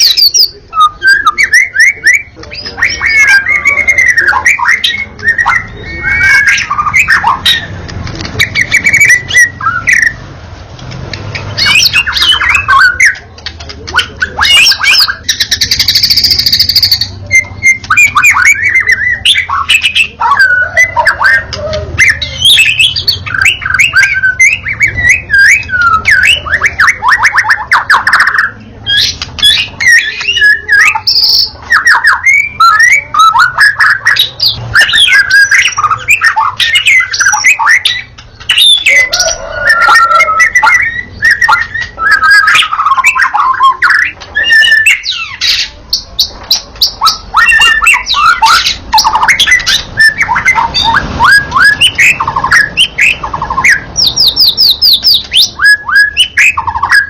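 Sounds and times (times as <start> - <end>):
bird singing whistles and trills: 0.0 - 10.2, 11.3 - 57.0.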